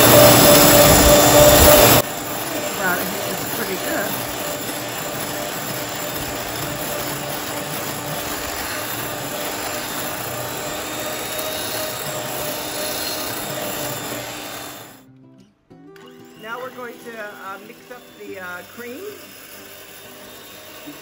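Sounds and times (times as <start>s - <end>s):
electric hand mixer whisking: 0.0s - 15.0s, 16.2s - 21.0s.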